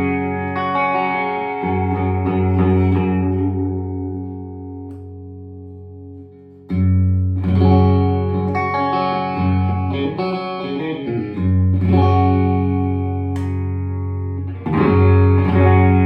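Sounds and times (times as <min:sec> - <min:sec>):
electric guitar through an amp: 0:00.0 - 0:16.0.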